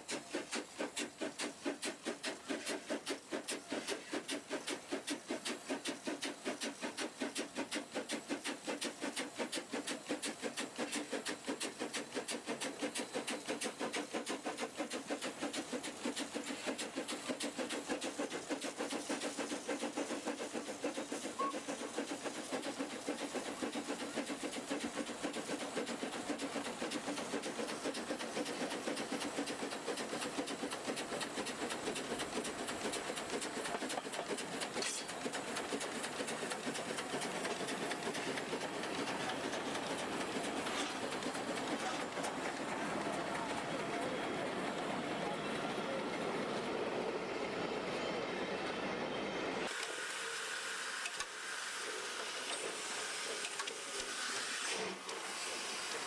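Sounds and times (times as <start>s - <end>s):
train running on rails: 0.0s - 56.0s.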